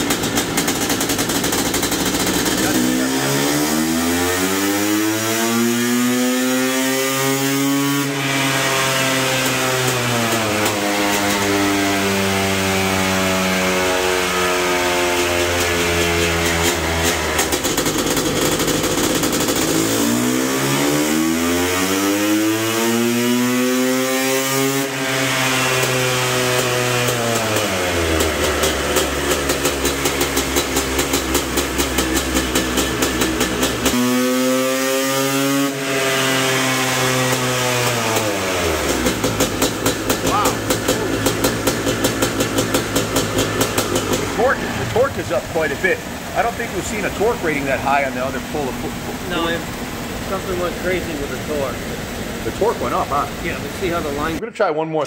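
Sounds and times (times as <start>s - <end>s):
two-stroke engine revving: 0.0s - 54.5s.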